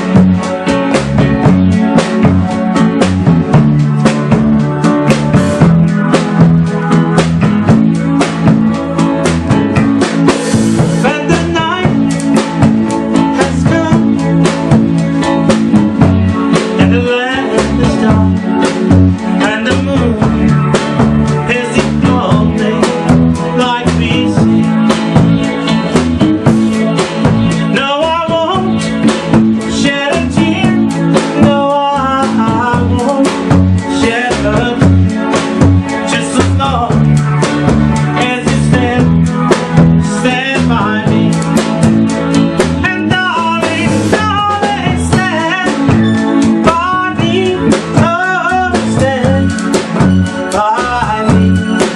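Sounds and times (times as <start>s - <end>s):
band playing upbeat music: 0.0s - 51.9s.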